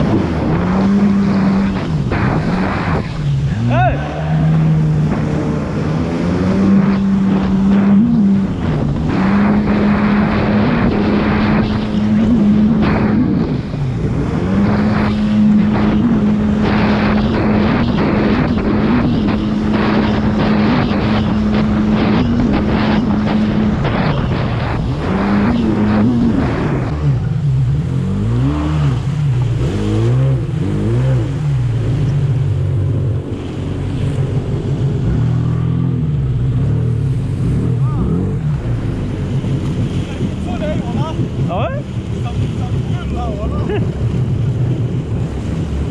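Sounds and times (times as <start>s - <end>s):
jet ski engine running: 0.0s - 45.9s
water splashing against hull: 0.0s - 45.9s.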